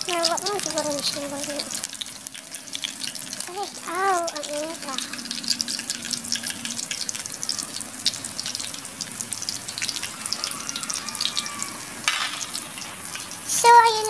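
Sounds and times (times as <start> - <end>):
fritters sizzling in oil: 0.0 - 14.0.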